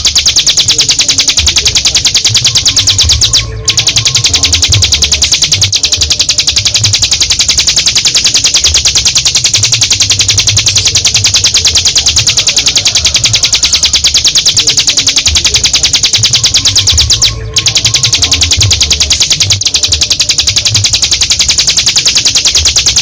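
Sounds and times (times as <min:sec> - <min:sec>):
bird singing a rapid trill: 0:00.0 - 0:23.0.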